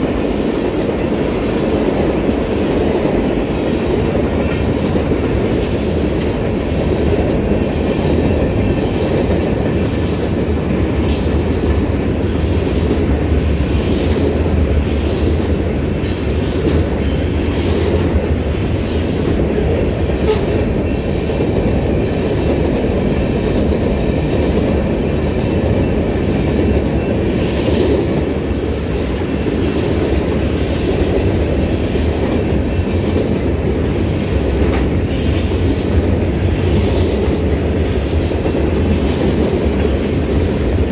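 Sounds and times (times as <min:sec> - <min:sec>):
steel wheels rumbling on rails: 0:00.0 - 0:40.9.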